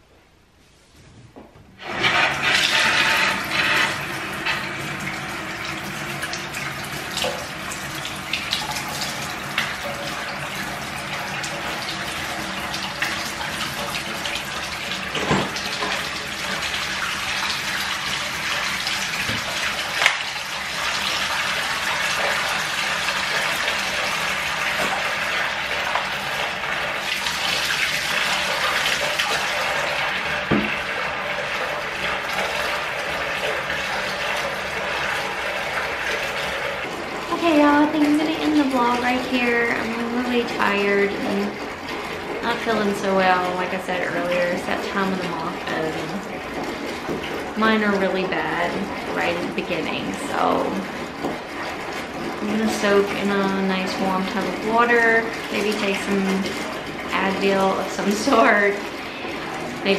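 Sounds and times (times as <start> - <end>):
faucet turned on: 1.8 - 59.9
water pouring into tub: 1.8 - 59.9.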